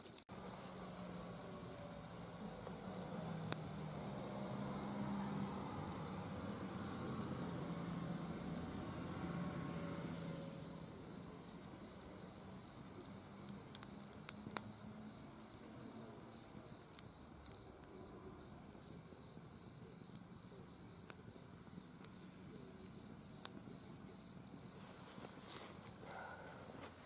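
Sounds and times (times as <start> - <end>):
burning wood popping: 0.0 - 27.0
campfire crackling: 0.0 - 27.0.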